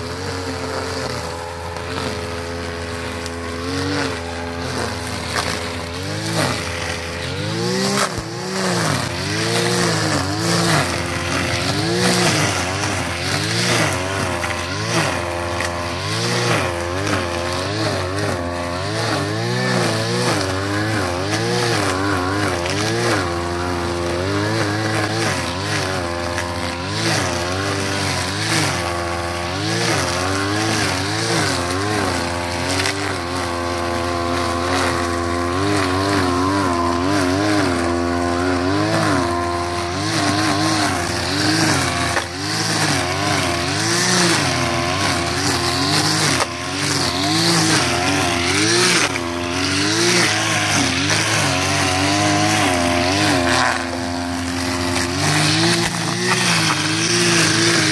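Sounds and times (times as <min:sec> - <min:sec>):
brush cutter engine revving: 0:00.0 - 0:57.9.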